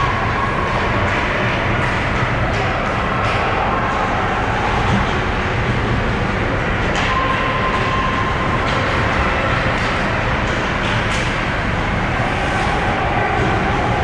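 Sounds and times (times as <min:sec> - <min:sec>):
rink and crowd noise: 0:00.0 - 0:14.0.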